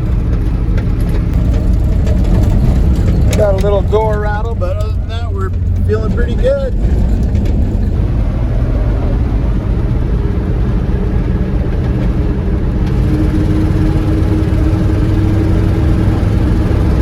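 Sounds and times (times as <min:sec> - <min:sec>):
pickup truck engine: 0:00.0 - 0:17.0
road noise: 0:00.0 - 0:17.0
steady engine drone: 0:00.0 - 0:17.0.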